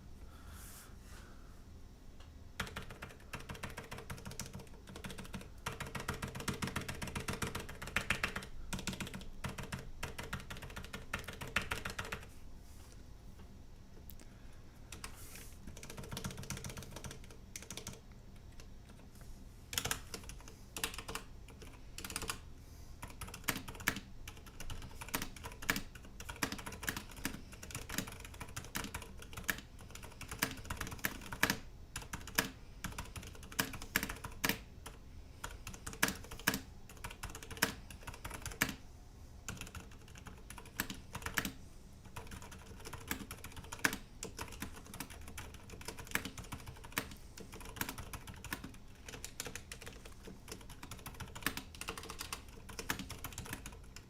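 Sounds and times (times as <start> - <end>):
typing on mechanical keyboard: 2.6 - 12.3, 15.7 - 19.0, 19.7 - 22.4, 23.0 - 38.8, 39.5 - 54.0.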